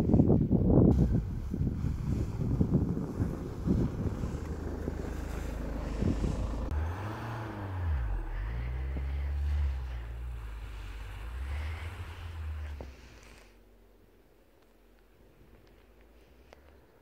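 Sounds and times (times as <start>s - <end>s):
car engine pulling through snow: 0.0s - 17.0s.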